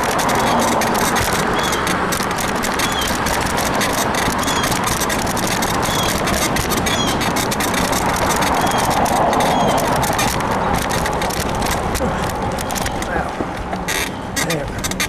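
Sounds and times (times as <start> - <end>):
bike frame squeaks: 0.0 - 15.0
bike rattling clicks: 0.0 - 15.0
wind and road noise: 0.0 - 15.0.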